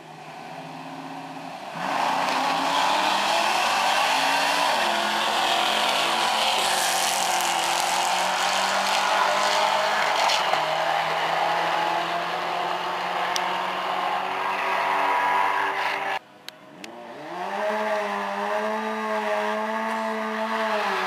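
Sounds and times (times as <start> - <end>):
drag racing cars at full throttle: 0.0 - 21.0.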